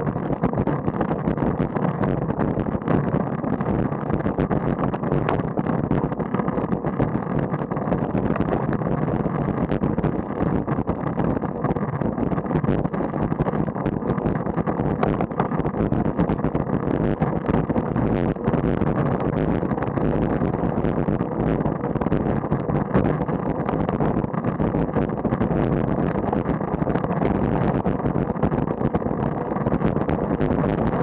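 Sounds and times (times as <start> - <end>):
small crackles: 0.0 - 31.0
wind buffeting microphone: 0.0 - 31.0.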